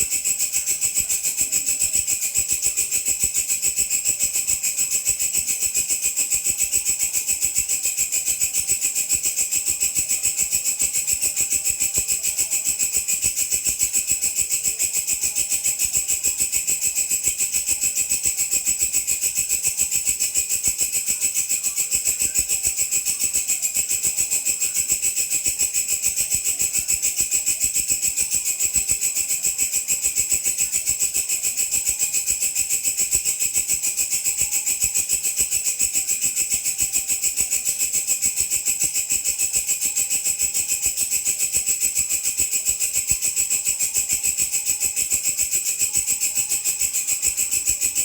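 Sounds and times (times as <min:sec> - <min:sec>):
grasshopper buzzing trill: 0:00.0 - 0:48.0.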